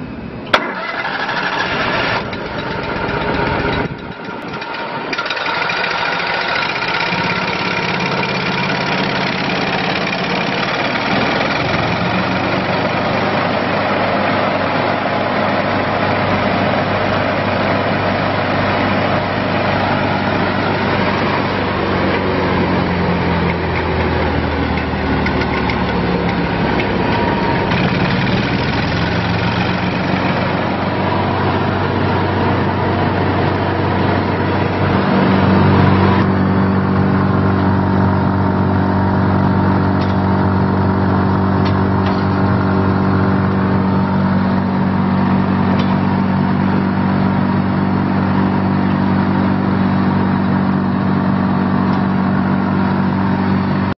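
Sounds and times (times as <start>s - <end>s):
wood chipper engine running: 0.0s - 53.9s.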